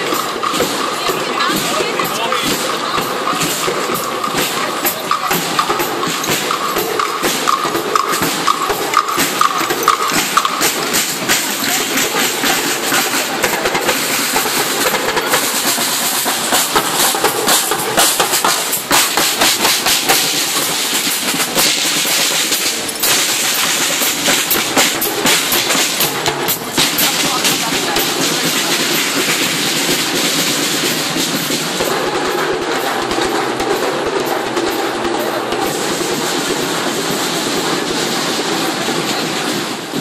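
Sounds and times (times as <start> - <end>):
marching band drums: 0.0 - 40.0.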